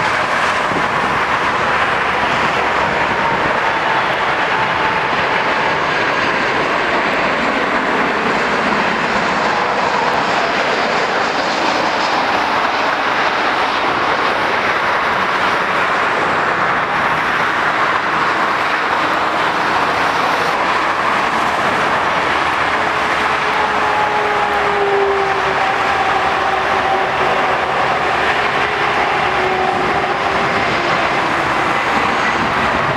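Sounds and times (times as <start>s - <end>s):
jet engine rush with whining tones: 0.0s - 32.9s.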